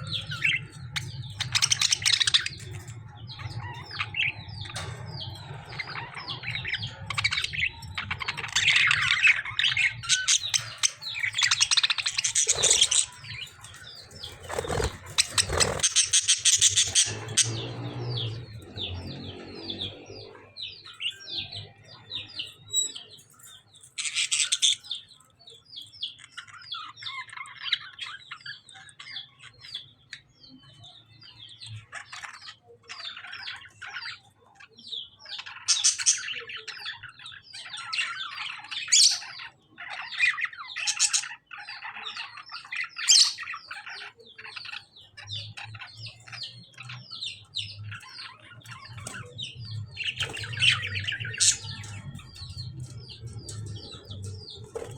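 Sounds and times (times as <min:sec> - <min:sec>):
birds chirping and chattering: 0:00.0 - 0:54.9.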